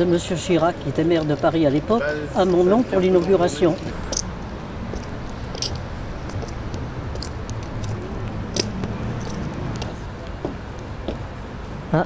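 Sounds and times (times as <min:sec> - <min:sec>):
footsteps on cobblestones: 0:00.0 - 0:11.9.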